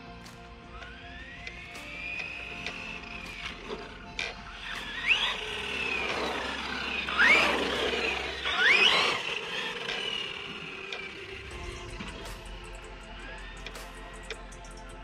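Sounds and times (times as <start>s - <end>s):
rc truck motor whining: 0.0s - 15.0s.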